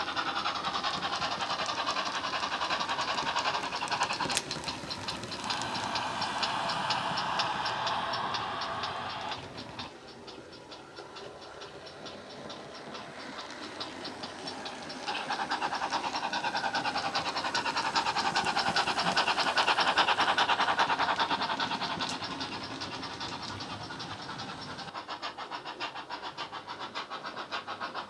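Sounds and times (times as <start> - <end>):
model steam locomotive chuffs: 0.0 - 28.0.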